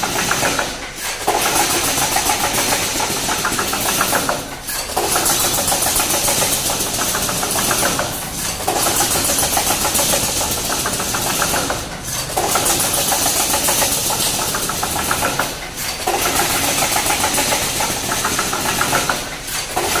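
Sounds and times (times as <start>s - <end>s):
welding machine clattering: 0.0s - 20.0s.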